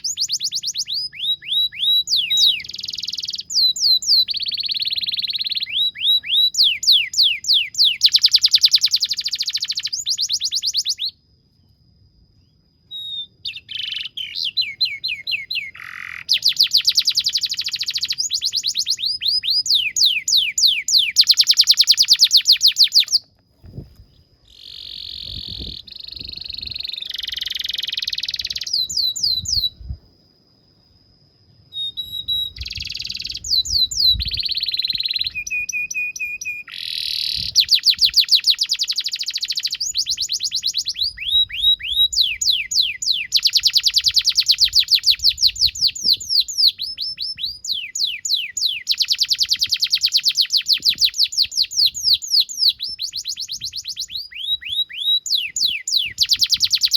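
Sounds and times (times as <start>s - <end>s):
canary singing: 0.0s - 11.2s, 12.9s - 23.3s, 24.5s - 29.8s, 31.8s - 56.9s.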